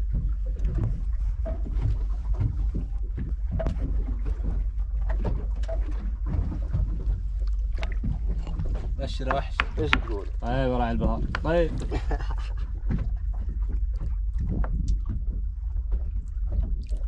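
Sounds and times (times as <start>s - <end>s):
boat engine low rumble: 0.0s - 17.0s
water knocks and slaps: 0.0s - 17.0s.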